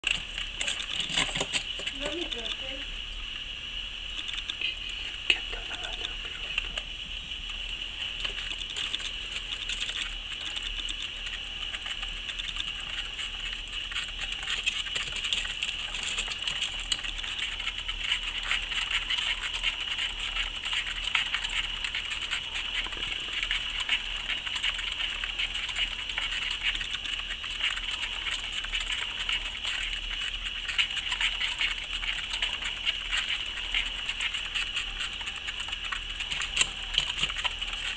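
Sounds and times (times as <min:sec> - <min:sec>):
exercise wheels clicking: 0:00.0 - 0:02.9, 0:07.6 - 0:37.9
fast patter of small feet: 0:00.0 - 0:02.9, 0:07.6 - 0:37.9
steady high whine: 0:00.0 - 0:37.9.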